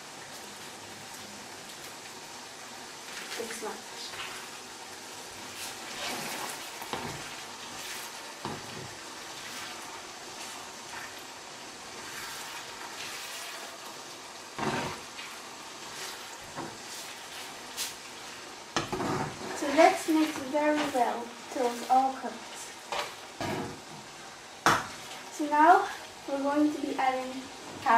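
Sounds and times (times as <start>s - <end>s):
meat sizzling in a frying pan: 0.0s - 27.9s.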